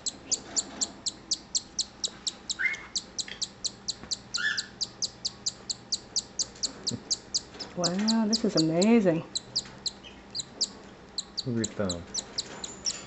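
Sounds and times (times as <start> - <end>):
chick begging cheeps: 0.0 - 13.0.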